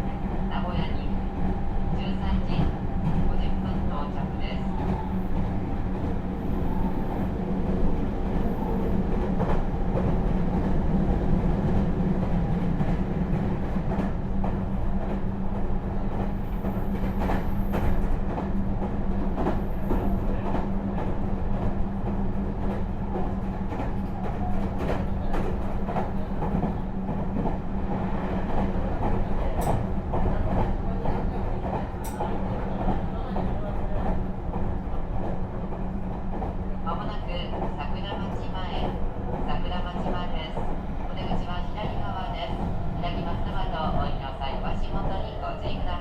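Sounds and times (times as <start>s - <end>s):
train wheels running on rails: 0.1s - 46.0s.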